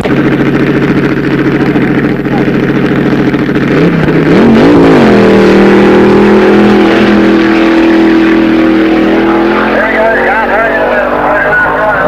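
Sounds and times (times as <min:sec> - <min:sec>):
dragster engine revving: 0:00.0 - 0:12.0.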